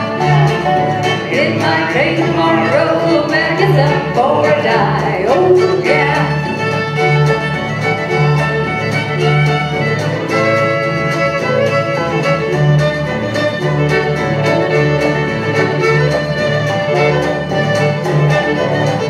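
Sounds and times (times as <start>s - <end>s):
bluegrass band playing: 0.0s - 19.0s
fiddle melody: 0.0s - 19.0s.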